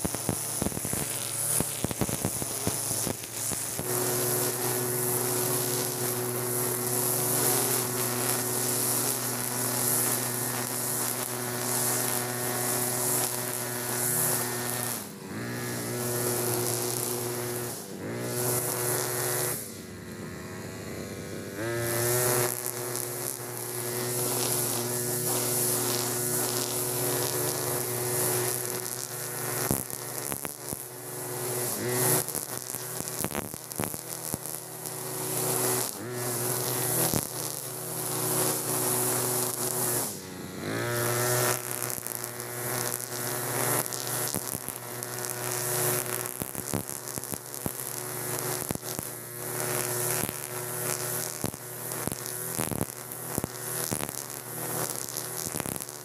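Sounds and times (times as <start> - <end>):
brush cutter cutting grass: 0.0 - 56.0.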